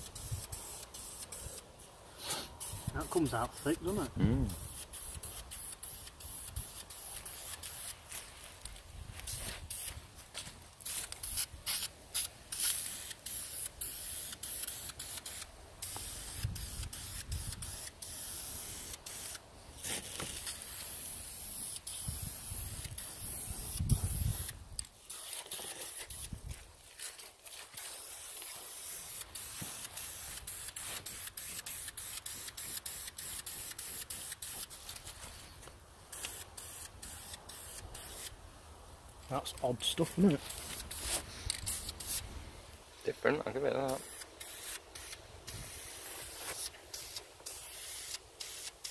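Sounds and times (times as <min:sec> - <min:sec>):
spray paint can hissing: 0:00.0 - 0:26.5, 0:27.5 - 0:38.4, 0:40.2 - 0:42.3, 0:43.8 - 0:48.9.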